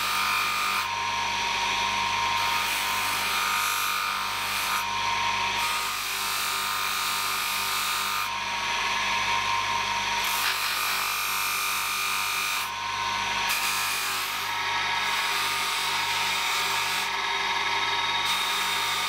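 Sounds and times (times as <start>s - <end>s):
electric power tool grinding: 0.0s - 19.0s.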